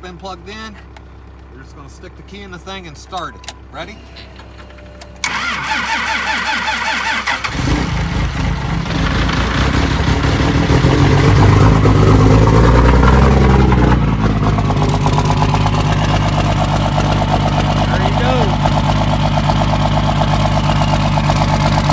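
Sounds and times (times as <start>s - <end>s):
diesel engine cranking and idling: 0.0s - 21.9s.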